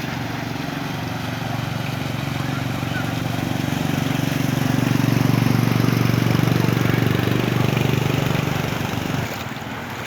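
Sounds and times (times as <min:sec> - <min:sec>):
small engine running: 0:00.0 - 0:09.5
water: 0:00.0 - 0:10.0
wind: 0:00.0 - 0:10.0.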